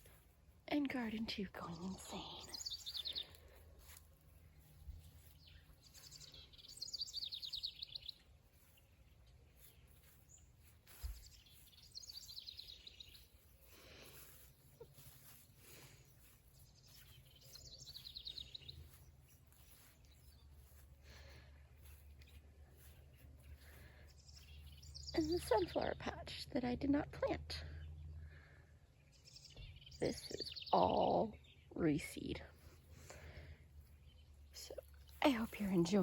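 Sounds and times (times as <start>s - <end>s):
faint songbird song: 0.0s - 36.0s.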